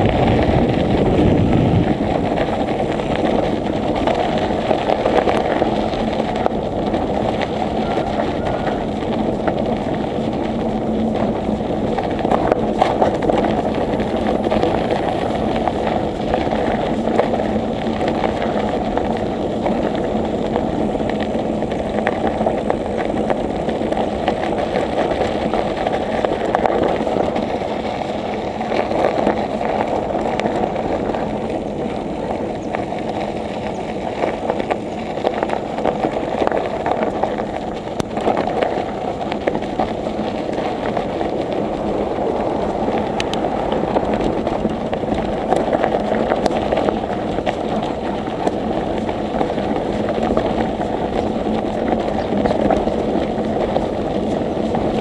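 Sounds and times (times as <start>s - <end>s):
bicycle tyre noise: 0.0s - 55.0s
wind rushing: 0.0s - 55.0s.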